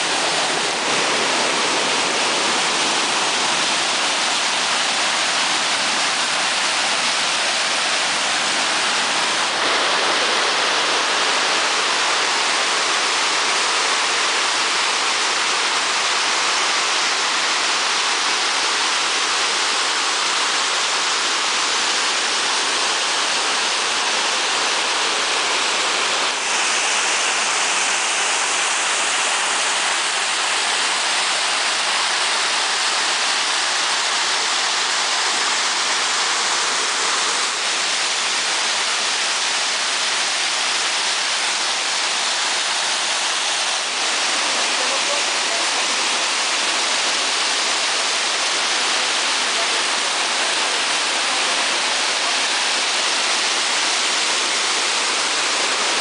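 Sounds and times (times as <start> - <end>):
stream water cascading over boulders: 0.0 - 56.0.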